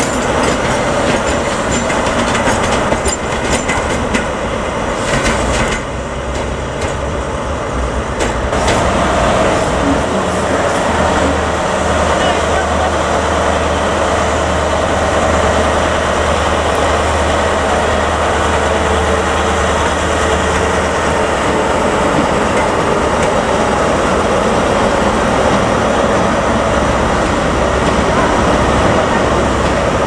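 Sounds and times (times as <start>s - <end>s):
train running: 0.0s - 30.0s.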